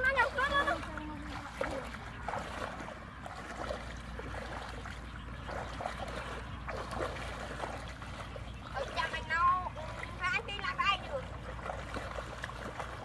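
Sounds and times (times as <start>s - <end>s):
small splashes: 0.0s - 13.0s
water sloshing and trickling: 0.0s - 13.0s.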